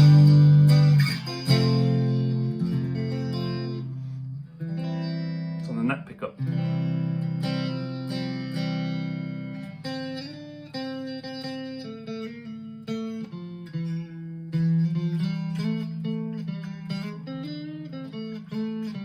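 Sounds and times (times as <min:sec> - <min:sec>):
clean electric guitar chords: 0:00.0 - 0:19.0.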